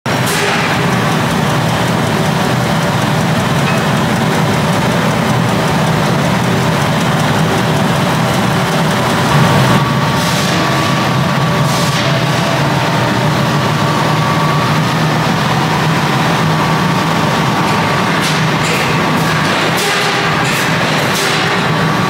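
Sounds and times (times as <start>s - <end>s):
machinery humming with whine: 0.1s - 22.0s.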